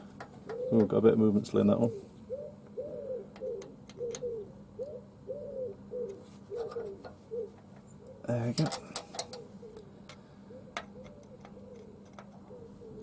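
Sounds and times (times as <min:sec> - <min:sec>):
pigeon cooing: 0:00.3 - 0:13.0.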